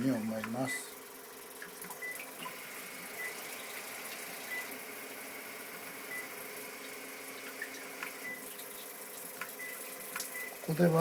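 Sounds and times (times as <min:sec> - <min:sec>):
bidet motor and pump hum: 0:00.0 - 0:11.0.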